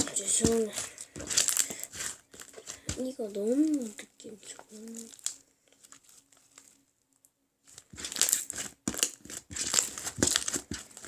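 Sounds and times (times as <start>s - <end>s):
slime squishing and crackling: 0.0s - 6.8s, 7.6s - 11.0s.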